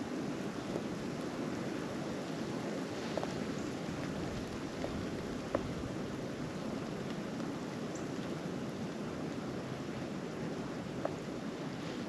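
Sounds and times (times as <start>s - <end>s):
steady wind in a snowstorm: 0.0s - 12.0s.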